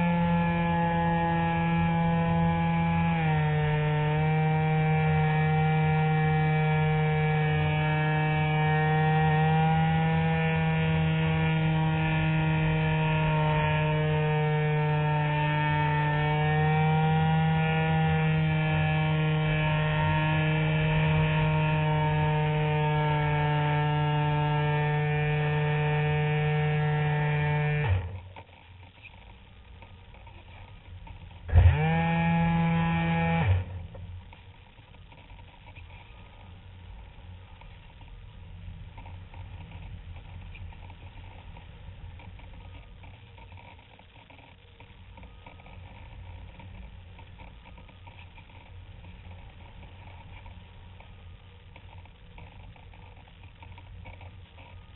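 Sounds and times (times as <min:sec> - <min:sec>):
electric motor and propeller whine: 0:00.0 - 0:38.1, 0:38.9 - 0:54.9.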